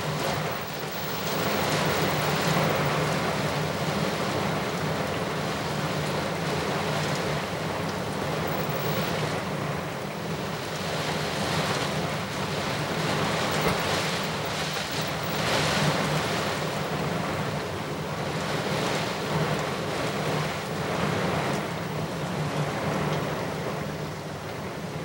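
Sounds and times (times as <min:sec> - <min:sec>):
driving rain and wind roar: 0:00.0 - 0:25.0.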